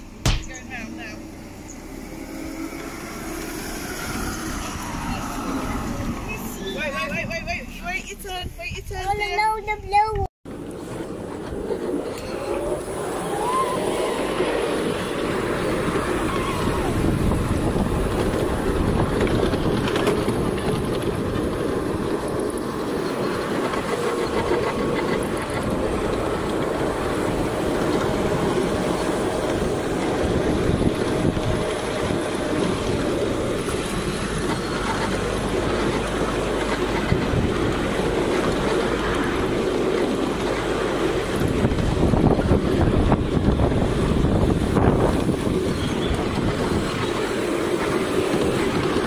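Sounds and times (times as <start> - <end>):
miniature train wheels rumbling: 2.7 - 49.0.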